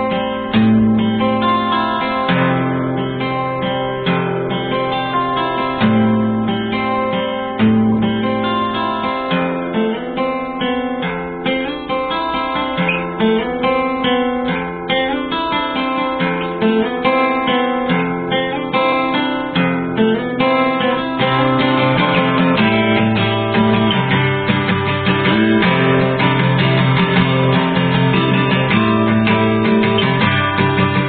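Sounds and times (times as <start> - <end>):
acoustic guitar music: 0.0 - 31.0.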